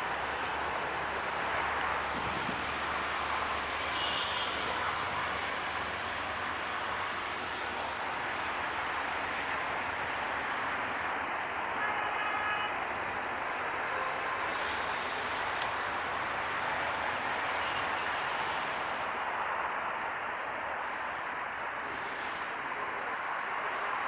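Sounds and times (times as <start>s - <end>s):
diesel train running noise: 0.0s - 24.0s.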